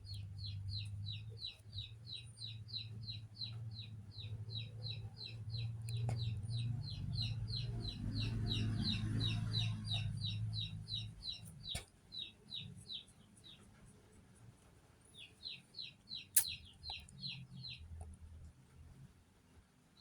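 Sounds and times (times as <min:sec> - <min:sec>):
bird chirping: 0:00.0 - 0:13.8, 0:15.1 - 0:18.1.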